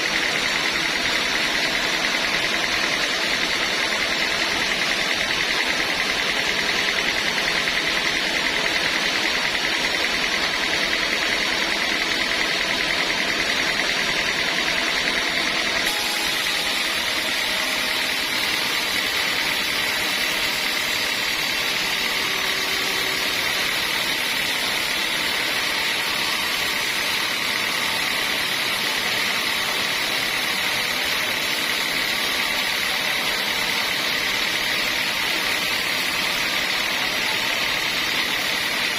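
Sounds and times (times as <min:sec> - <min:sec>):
sawmill saw whining: 0:00.0 - 0:38.9.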